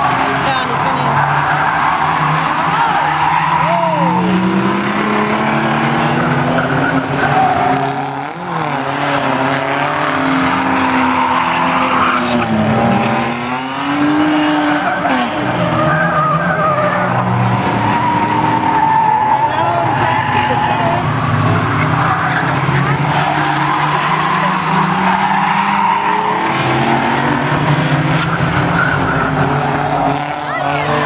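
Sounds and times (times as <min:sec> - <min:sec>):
racing car engines revving: 0:00.0 - 0:31.0.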